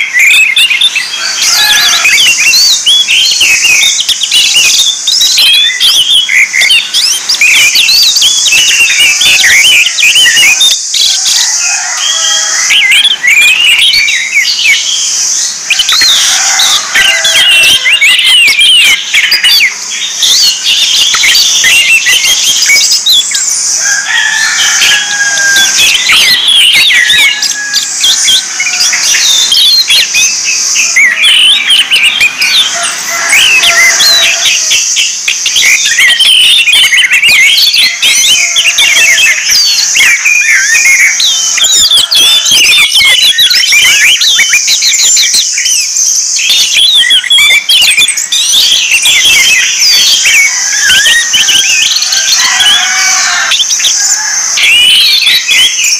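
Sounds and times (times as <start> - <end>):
thrushes singing: 0.0 - 55.9.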